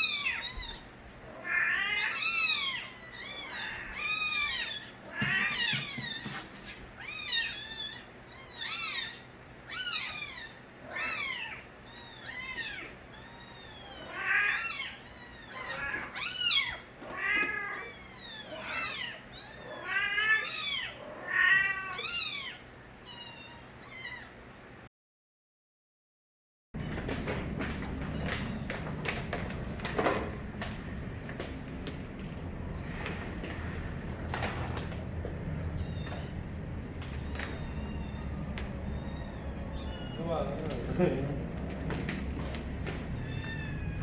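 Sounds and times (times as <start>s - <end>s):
kittens meowing: 0.0s - 6.3s, 7.0s - 24.4s, 32.4s - 44.0s.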